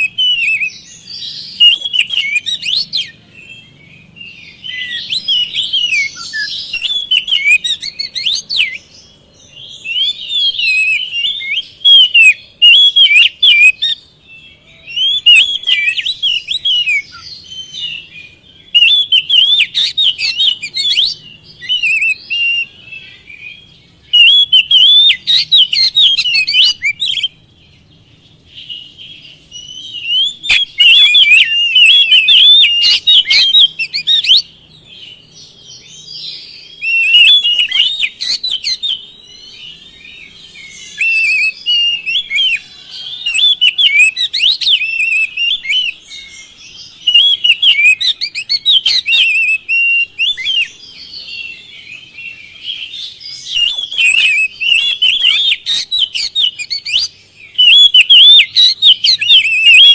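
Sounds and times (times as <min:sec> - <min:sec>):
bird singing whistles and chattering: 0:00.0 - 0:27.5, 0:28.5 - 0:59.9.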